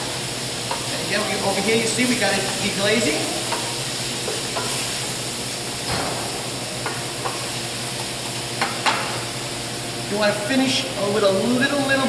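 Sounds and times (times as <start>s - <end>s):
pan sizzling and bubbling: 0.0s - 12.0s.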